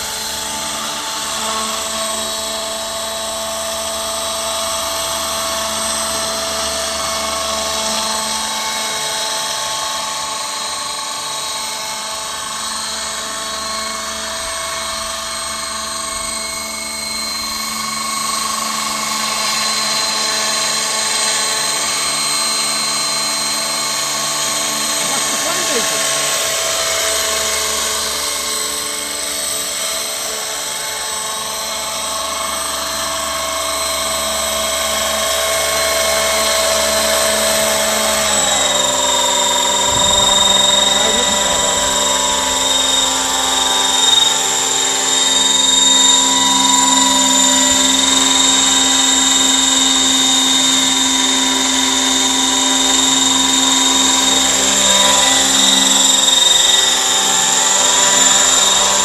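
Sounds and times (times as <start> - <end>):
model helicopter high-pitched whine: 0.0 - 59.0.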